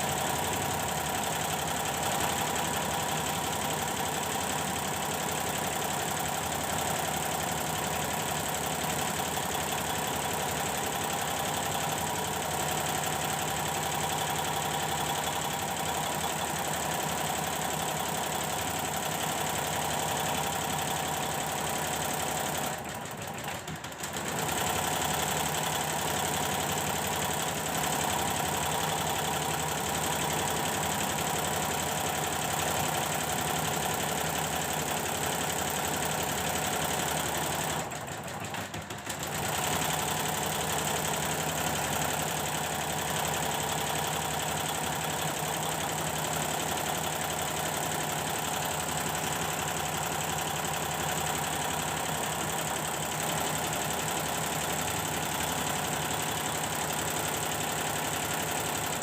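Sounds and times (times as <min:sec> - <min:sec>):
embroidery machine stitching: 0:00.0 - 0:59.0.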